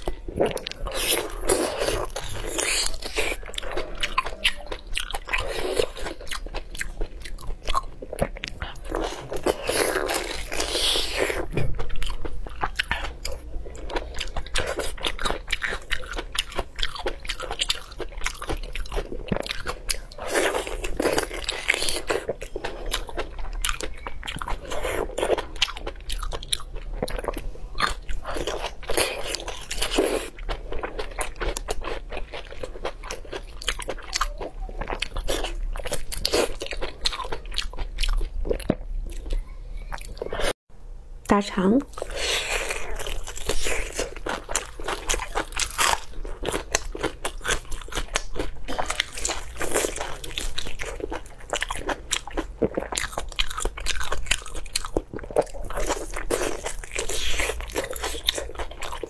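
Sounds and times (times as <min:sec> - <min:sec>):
person biting and chewing: 0:00.0 - 0:39.4, 0:41.9 - 0:59.0.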